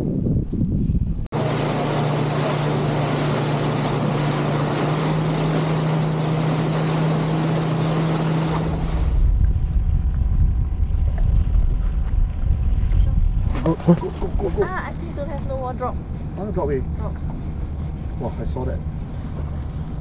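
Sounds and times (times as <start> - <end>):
wind buffeting microphone: 0.0 - 20.0
outboard motor drone: 1.3 - 20.0
water rushing past hull: 1.3 - 20.0.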